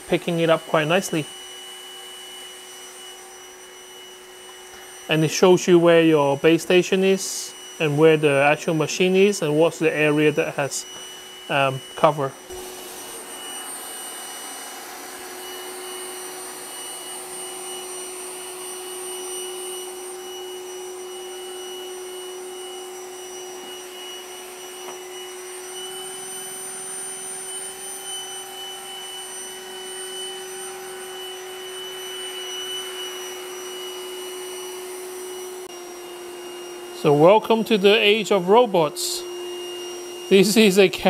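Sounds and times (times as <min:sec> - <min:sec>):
robot vacuum cleaner running: 0:00.0 - 0:41.0.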